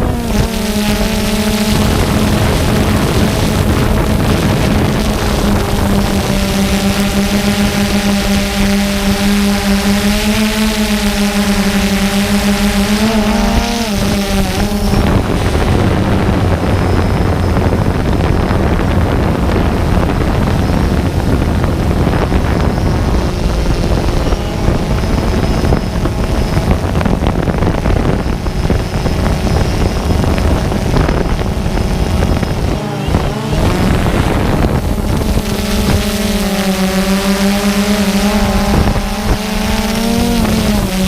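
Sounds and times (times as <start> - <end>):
loud engine running: 0.0 - 41.0
wind noise on microphone: 0.0 - 41.0.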